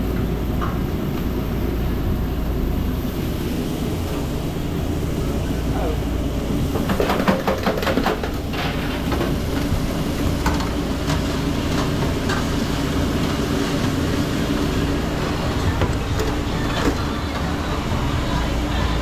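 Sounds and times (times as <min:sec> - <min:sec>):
kitchen machine drone: 0:00.0 - 0:19.0.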